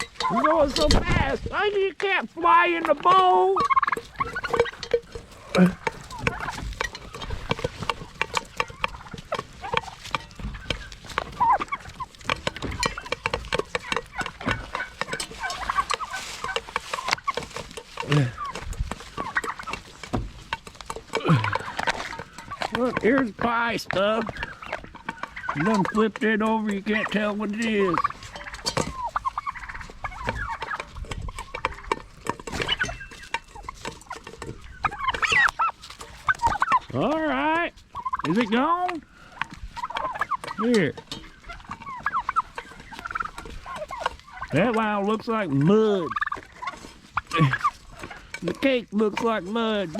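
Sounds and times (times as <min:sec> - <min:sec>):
turkeys chirping calls: 0:00.0 - 0:49.9
turkeys pecking at food bowl: 0:00.0 - 0:49.9.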